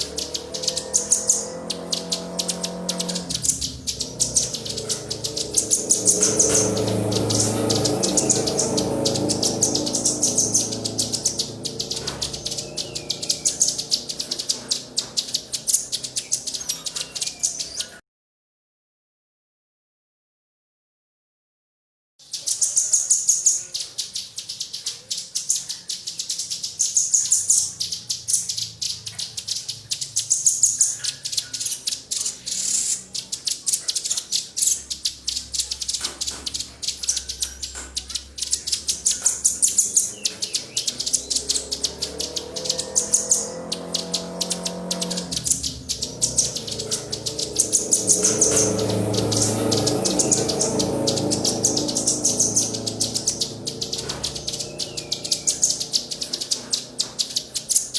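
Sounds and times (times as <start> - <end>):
songbirds chirping and trilling: 0.0 - 18.0, 22.2 - 57.9.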